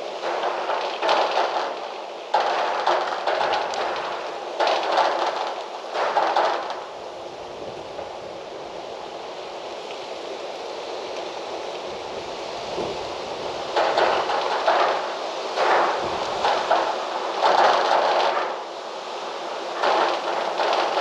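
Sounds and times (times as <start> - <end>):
leaves rustling: 0.0 - 21.0
wind gusting through trees: 0.0 - 21.0.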